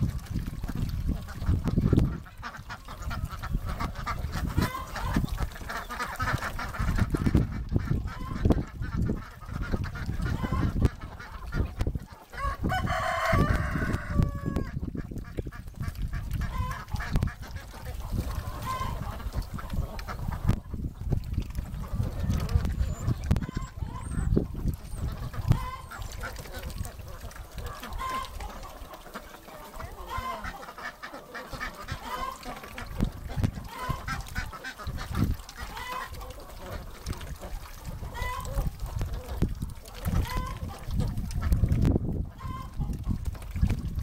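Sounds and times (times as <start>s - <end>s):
ducks quacking: 0.0s - 43.6s
chickens: 0.0s - 44.0s.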